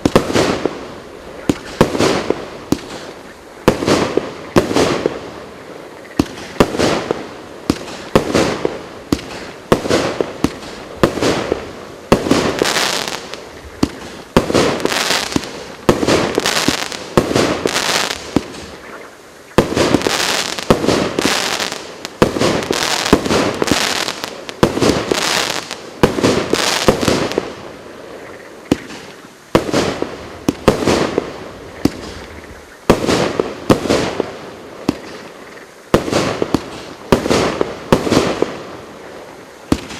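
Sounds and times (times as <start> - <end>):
fireworks bangs and bursts: 0.0 - 5.4, 6.2 - 27.7, 28.7 - 35.3, 35.9 - 38.9, 39.7 - 39.9.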